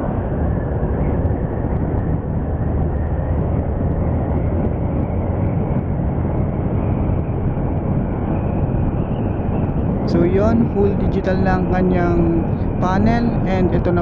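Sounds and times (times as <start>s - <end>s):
wind rushing on microphone: 0.0s - 14.0s
road noise: 2.1s - 14.0s.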